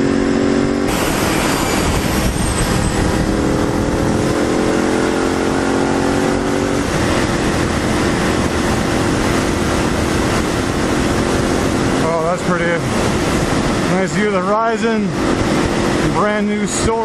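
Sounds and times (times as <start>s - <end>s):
motorcycle engine: 0.0s - 17.0s
wind rush on microphone: 0.0s - 17.0s.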